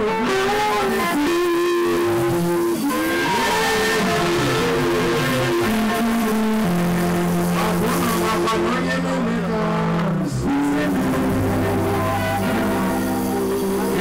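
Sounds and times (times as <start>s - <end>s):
long held chords: 0.0s - 14.0s
man singing into microphone: 0.0s - 14.0s
low bass note: 1.0s - 14.0s.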